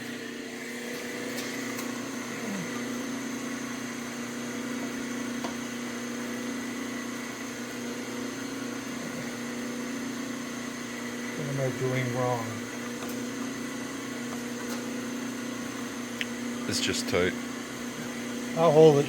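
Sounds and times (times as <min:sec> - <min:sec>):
electric motor humming: 0:00.6 - 0:19.0.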